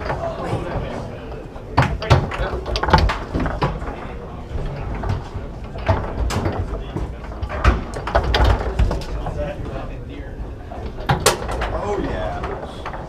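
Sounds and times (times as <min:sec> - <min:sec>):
foosball ball clacking: 0:00.0 - 0:09.9, 0:10.6 - 0:13.0.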